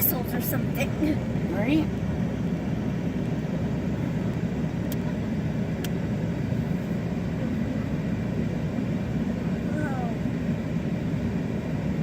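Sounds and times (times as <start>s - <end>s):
car low rumble: 0.0s - 12.0s.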